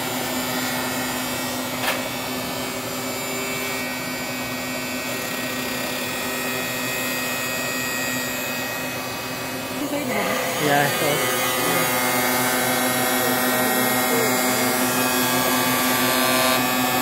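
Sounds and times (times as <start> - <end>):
skate sharpener motor whine: 0.0 - 17.0.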